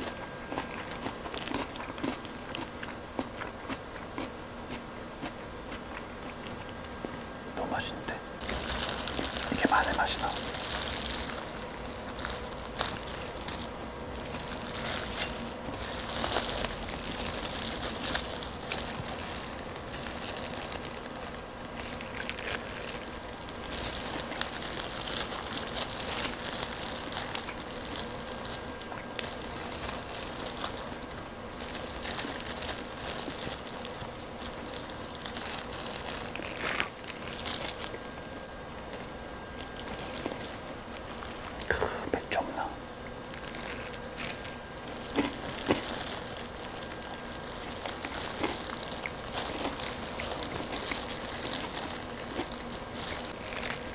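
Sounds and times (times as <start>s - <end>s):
plastic gloves crinkling: 0.0s - 2.8s, 7.7s - 53.9s
crisp chicken skin crackling: 0.0s - 5.3s, 8.4s - 38.1s, 39.5s - 41.8s, 43.2s - 53.9s.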